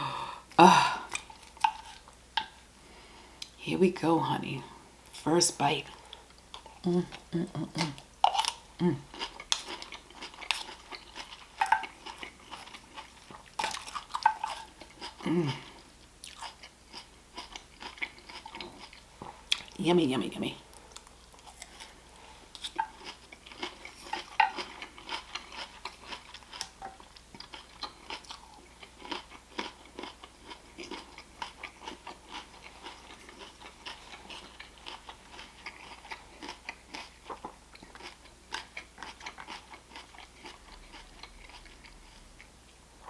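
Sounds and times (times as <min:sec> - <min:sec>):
chewing crisp salad: 0:01.1 - 0:02.7, 0:05.9 - 0:42.8.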